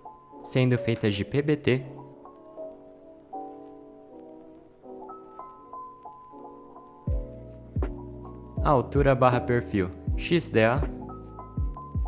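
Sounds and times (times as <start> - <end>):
soft background music chords: 0.0 - 12.0.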